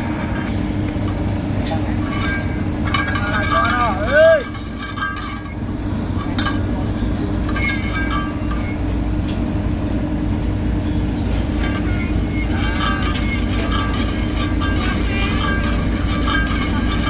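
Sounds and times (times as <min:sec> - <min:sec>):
heavy machinery engine rumbling: 0:00.0 - 0:17.0.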